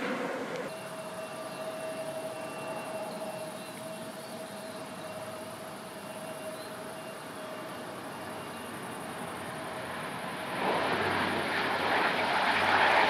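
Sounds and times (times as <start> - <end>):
turboprop engine whine: 0.0 - 13.0.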